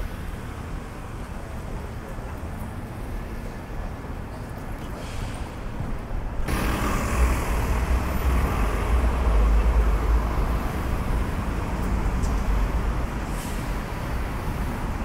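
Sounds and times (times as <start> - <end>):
rumble of passing cars and buses: 0.0 - 15.0.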